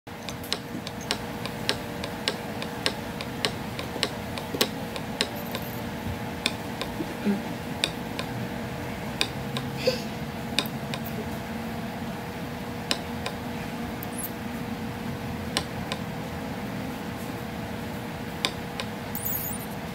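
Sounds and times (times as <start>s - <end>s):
faint steady hum: 0.1s - 19.9s.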